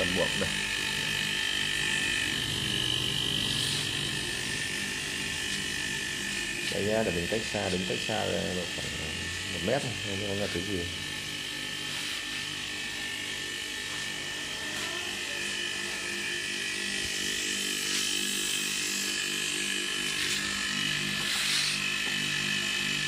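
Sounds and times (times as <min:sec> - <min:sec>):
air compressor humming: 0:00.0 - 0:23.0.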